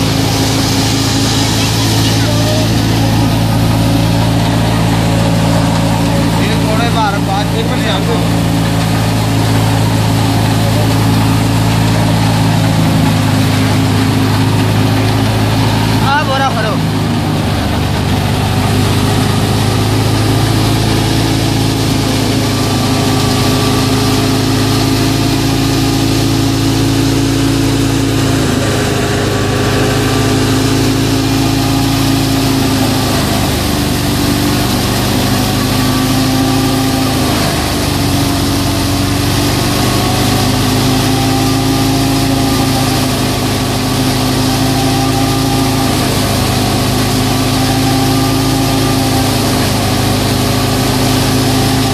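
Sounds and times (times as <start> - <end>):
tractor and thresher droning: 0.0 - 51.9.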